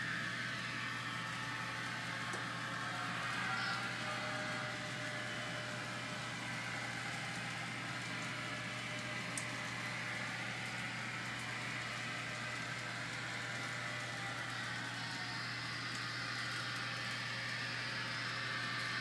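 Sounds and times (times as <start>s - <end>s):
model train motors whirring: 0.0s - 19.0s.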